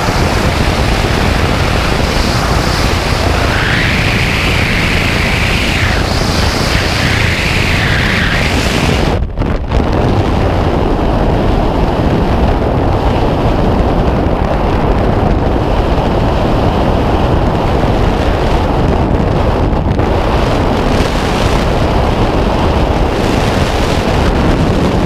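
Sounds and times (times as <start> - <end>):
wind rushing on microphone: 0.0 - 25.0.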